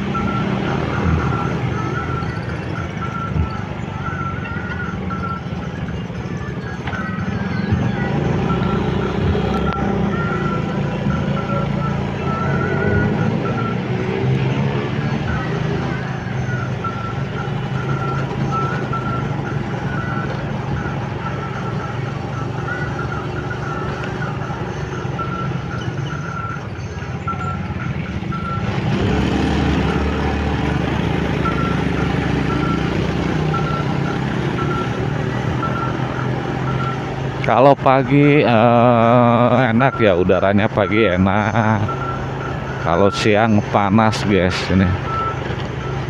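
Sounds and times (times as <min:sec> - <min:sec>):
motorcycle engine: 0:00.0 - 0:46.0
road noise: 0:00.0 - 0:46.0.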